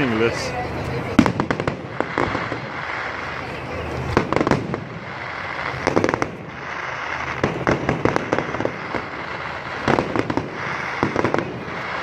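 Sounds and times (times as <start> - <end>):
distant fireworks crackling bangs: 0.0 - 12.0
steady background hiss: 0.0 - 12.0.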